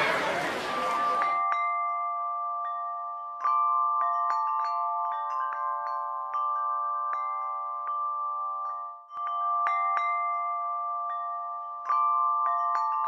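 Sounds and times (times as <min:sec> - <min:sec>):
bell-like chime notes: 0:00.0 - 0:13.0.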